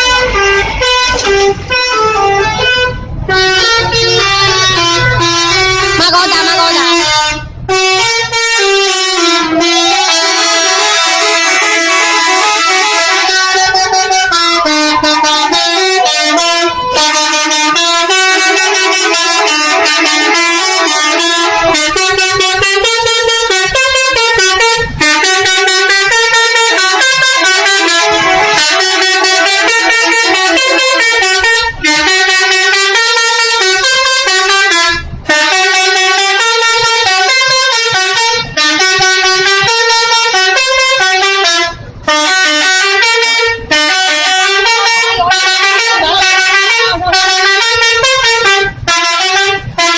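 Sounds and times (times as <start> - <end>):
multi-tone bus air horn melody: 0.0 - 49.9.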